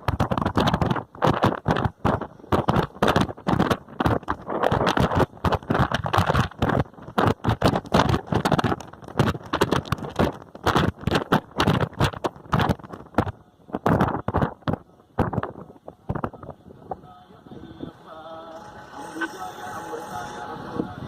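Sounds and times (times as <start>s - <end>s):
bus rattling along road: 0.0s - 21.0s.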